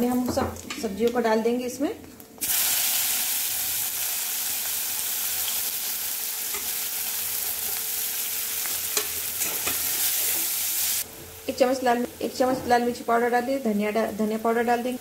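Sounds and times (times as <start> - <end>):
vegetables sizzling in oil: 2.4 - 15.0.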